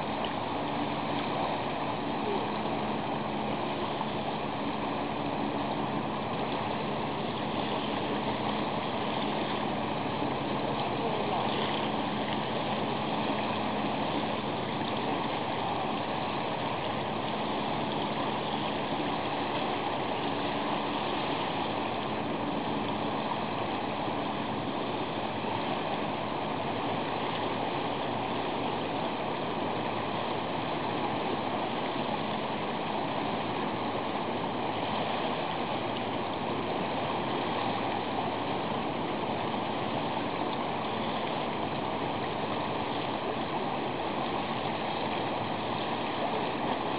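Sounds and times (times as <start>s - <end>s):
faint low hum: 0.0s - 46.9s
sea water washing against concrete: 0.0s - 46.9s.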